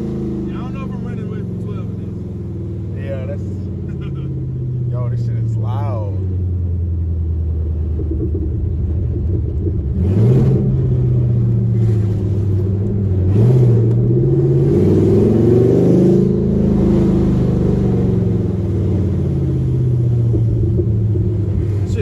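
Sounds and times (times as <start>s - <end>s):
car engine exhaust revving: 0.0s - 22.0s.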